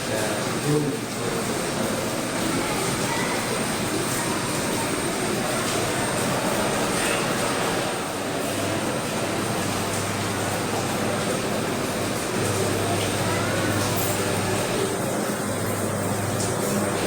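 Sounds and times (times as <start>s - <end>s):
rain: 0.0s - 17.0s.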